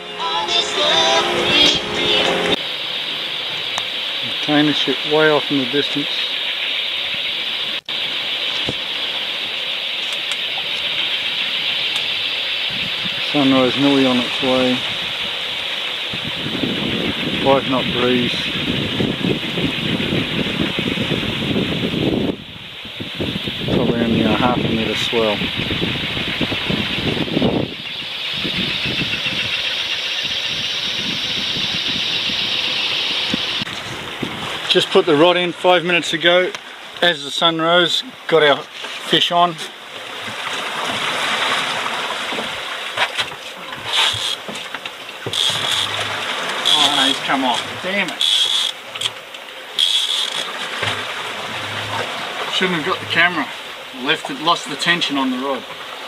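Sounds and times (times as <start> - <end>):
sea: 0.0 - 56.0
wind: 0.0 - 56.0.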